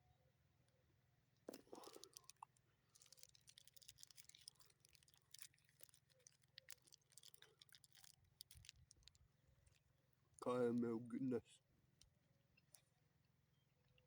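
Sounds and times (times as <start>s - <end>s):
faint close-up chewing: 0.7s - 10.9s, 11.9s - 13.0s.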